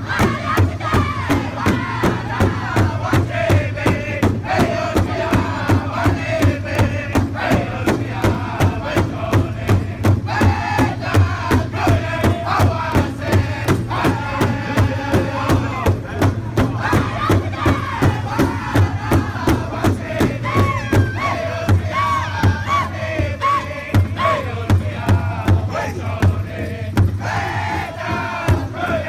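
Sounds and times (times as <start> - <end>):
group singing in full voice: 0.0 - 29.0
large drum beating: 0.0 - 29.0.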